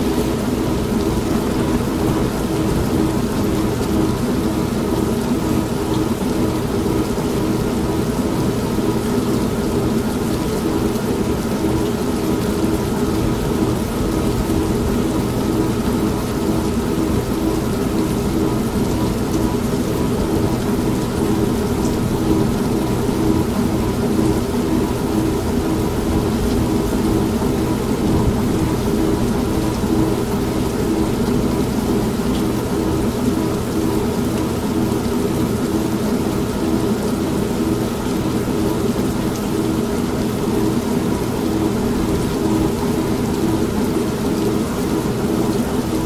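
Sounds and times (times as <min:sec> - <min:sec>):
steady rain: 0:00.0 - 0:46.0
washing machine motor humming: 0:00.0 - 0:46.0.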